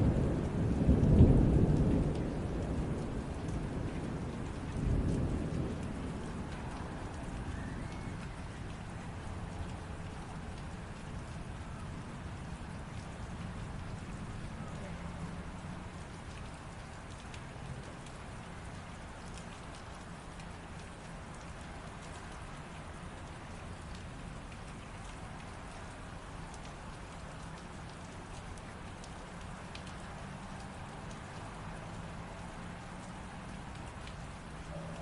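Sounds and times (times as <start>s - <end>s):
light rain falling: 0.0s - 35.0s
low steady rumble: 0.0s - 35.0s.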